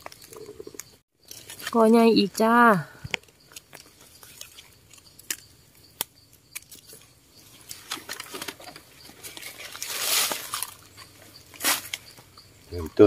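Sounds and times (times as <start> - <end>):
dry leaves and twigs crackling: 0.0 - 12.9.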